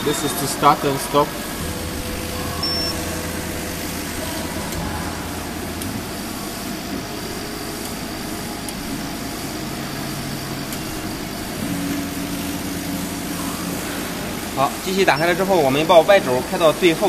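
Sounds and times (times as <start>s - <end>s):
laser engraver humming and whirring: 0.0s - 17.0s
low steady tone: 1.3s - 16.0s.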